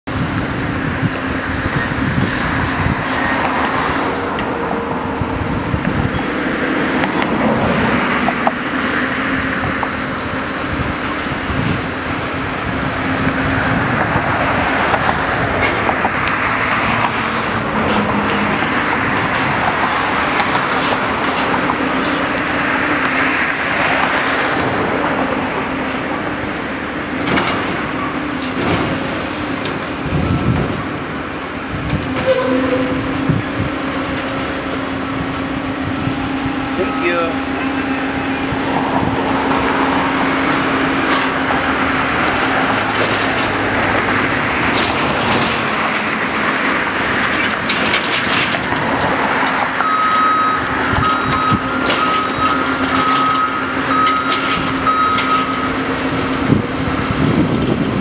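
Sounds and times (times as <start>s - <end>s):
rail yard noise: 0.0s - 58.0s
crane machinery humming: 0.1s - 58.0s.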